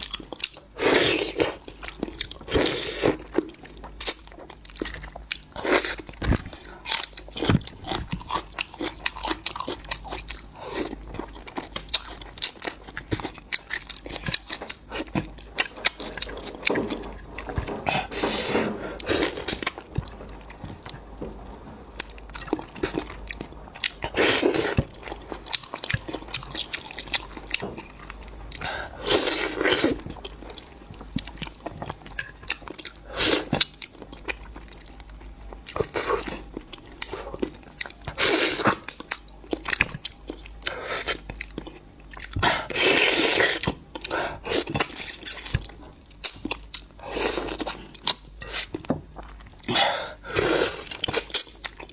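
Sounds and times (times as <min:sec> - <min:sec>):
person chewing and crunching: 0:00.0 - 0:51.9.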